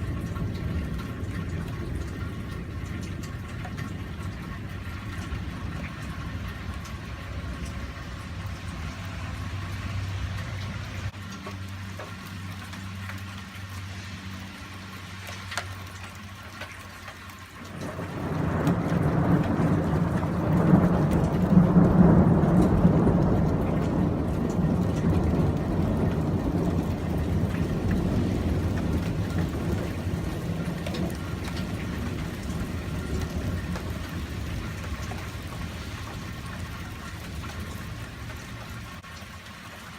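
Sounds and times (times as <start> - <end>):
thunder rumbling: 0.0 - 11.2, 17.6 - 39.0
rain falling: 0.0 - 39.9.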